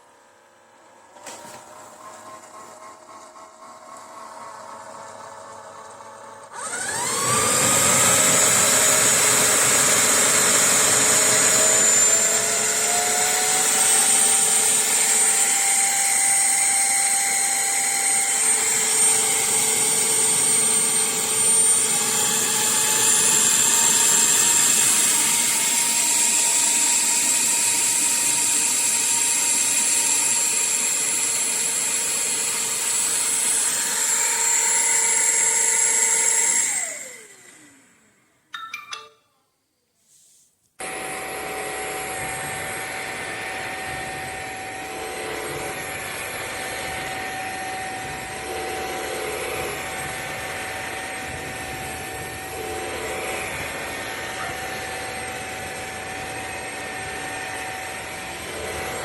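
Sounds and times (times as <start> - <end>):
vacuum cleaner motor whining: 0.8 - 38.3, 40.8 - 59.0.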